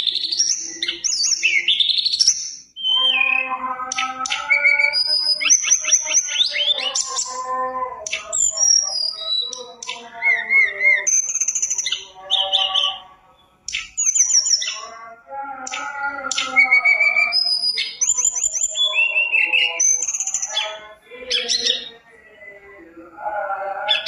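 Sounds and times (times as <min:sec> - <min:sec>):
bird singing whistles and trills: 0:00.0 - 0:15.0, 0:15.7 - 0:22.6.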